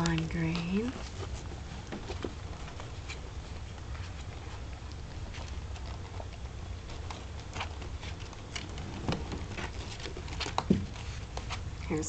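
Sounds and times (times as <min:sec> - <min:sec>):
low steady hum: 0:00.0 - 0:12.0
soft rustling: 0:00.0 - 0:12.0.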